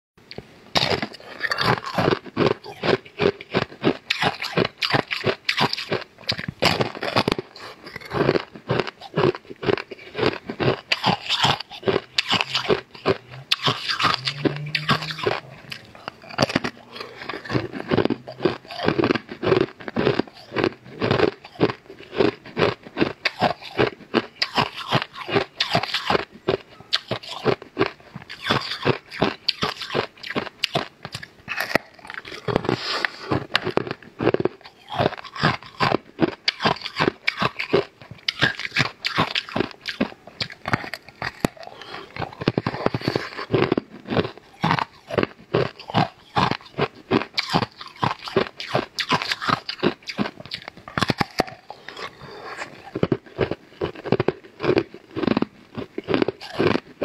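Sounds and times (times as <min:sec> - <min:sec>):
crunching and chewing cookie: 0:00.2 - 0:57.0.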